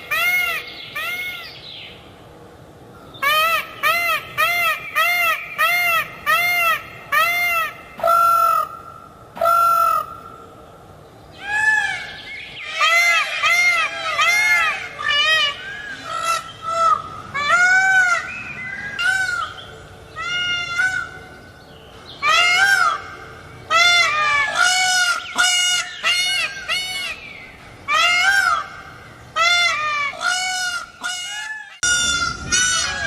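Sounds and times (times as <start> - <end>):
peafowl calling: 0.0 - 1.6, 3.2 - 10.4, 11.4 - 21.4, 22.2 - 33.0.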